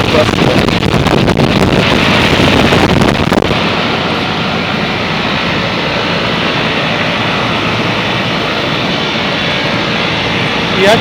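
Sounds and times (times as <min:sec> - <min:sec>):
compressor hum: 0:00.0 - 0:11.0
condenser fan rushing: 0:00.0 - 0:11.0.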